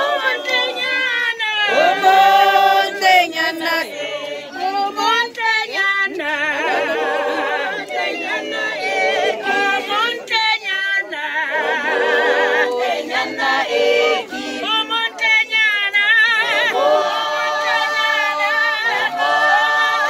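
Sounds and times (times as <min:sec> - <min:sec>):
group singing unaccompanied: 0:00.0 - 0:20.0.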